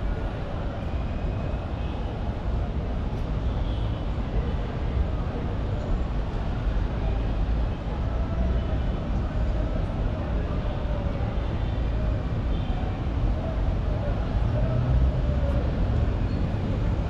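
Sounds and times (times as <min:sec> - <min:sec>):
faint voices of passers-by: 0:00.0 - 0:17.0
low rumble of traffic: 0:00.0 - 0:17.0.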